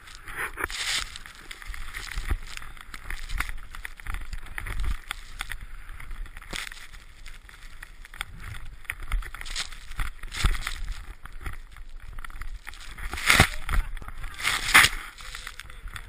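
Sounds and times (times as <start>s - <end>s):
snowboard cutting through powder: 0.0s - 15.9s.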